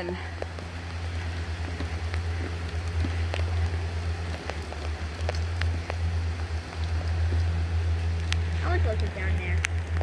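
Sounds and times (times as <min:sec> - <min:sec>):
light rain pattering: 0:00.0 - 0:10.0
low rumble: 0:00.0 - 0:10.0.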